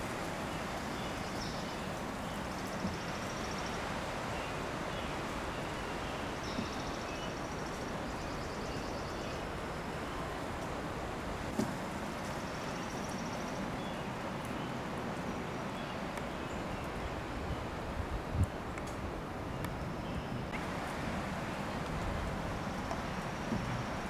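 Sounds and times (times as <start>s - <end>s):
wind blowing through pine trees: 0.0s - 24.0s.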